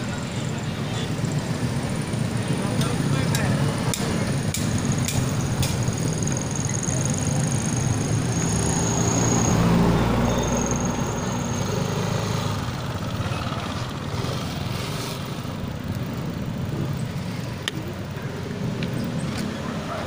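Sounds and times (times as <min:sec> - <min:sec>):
tricycle engine running: 0:00.0 - 0:20.0.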